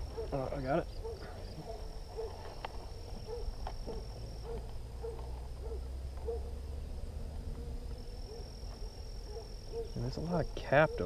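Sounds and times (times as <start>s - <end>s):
distant animal calling: 0.0s - 11.0s.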